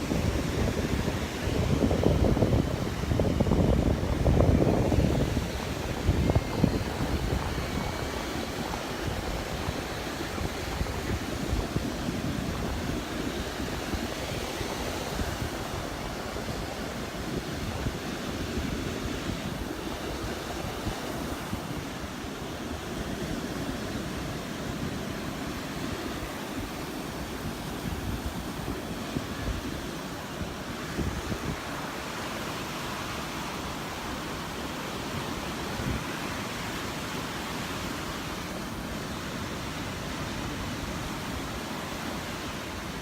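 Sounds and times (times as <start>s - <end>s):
surf breaking on beach: 0.0s - 43.0s
wind buffeting microphone: 0.0s - 43.0s.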